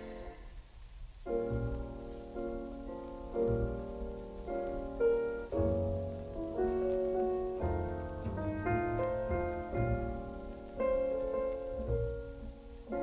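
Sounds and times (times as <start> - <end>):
piano playing slow chords: 0.0 - 0.4, 1.3 - 13.0.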